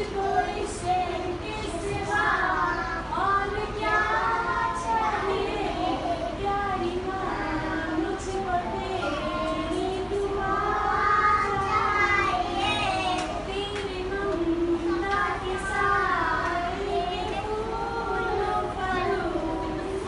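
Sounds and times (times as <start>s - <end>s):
children singing: 0.0s - 20.0s
woman singing: 0.0s - 20.0s.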